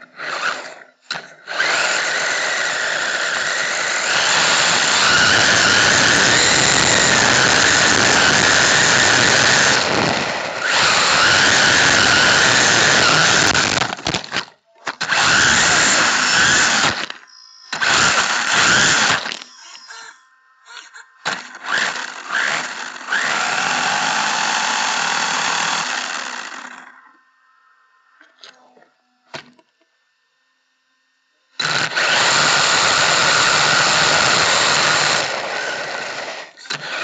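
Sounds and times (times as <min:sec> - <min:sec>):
electric motor whining: 0:00.0 - 0:27.2, 0:31.6 - 0:37.0.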